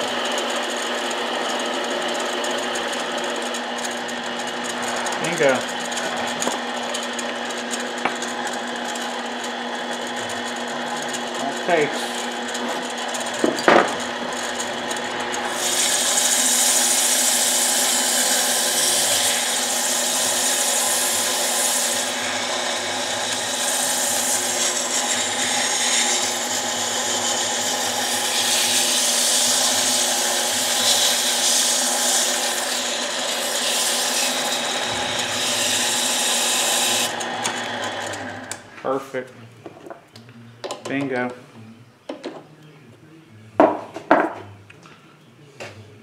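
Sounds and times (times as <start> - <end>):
lathe motor hum: 0.0 - 38.7.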